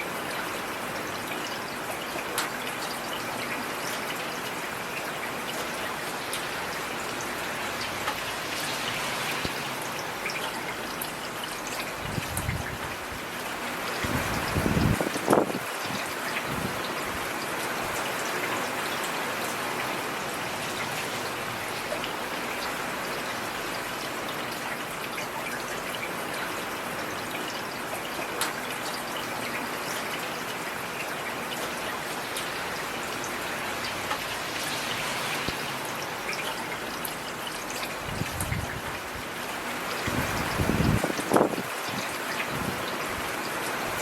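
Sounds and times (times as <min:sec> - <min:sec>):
heavy rain falling: 0:00.0 - 0:44.0.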